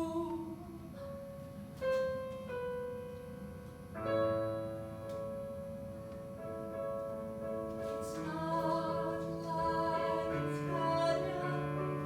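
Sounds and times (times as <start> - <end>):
piano notes and chord: 1.0 - 12.0.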